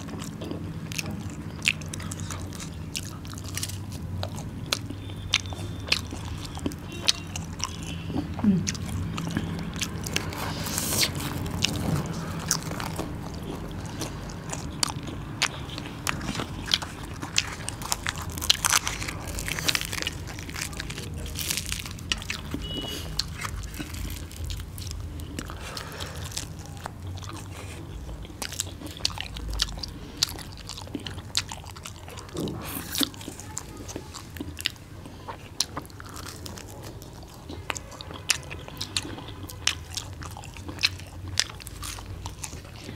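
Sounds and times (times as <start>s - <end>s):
mouth clicks and smacks: 0.0s - 42.9s
people chewing food: 0.0s - 42.9s.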